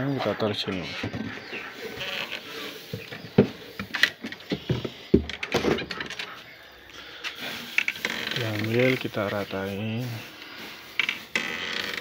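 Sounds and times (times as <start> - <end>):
bedding husks rustling: 0.0 - 12.0.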